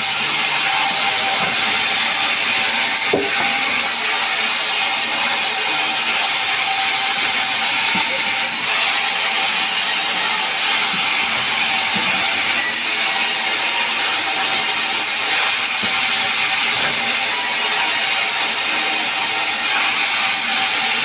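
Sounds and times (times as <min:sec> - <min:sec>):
sawmill saw cutting timber: 0:00.0 - 0:21.0.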